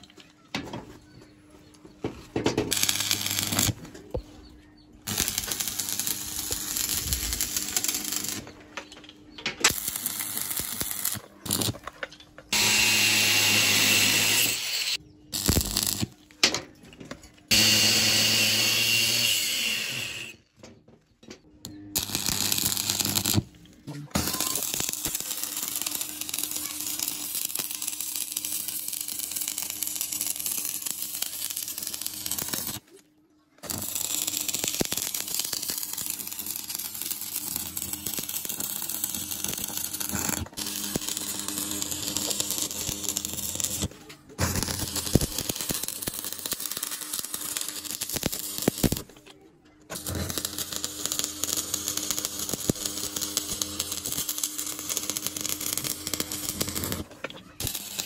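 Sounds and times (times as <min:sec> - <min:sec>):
welding arc crackling and sizzling: 0:02.6 - 0:04.1, 0:05.0 - 0:08.6, 0:09.6 - 0:11.9, 0:12.5 - 0:16.2, 0:17.5 - 0:20.4, 0:22.0 - 0:32.9, 0:33.6 - 0:49.2, 0:49.9 - 0:58.0.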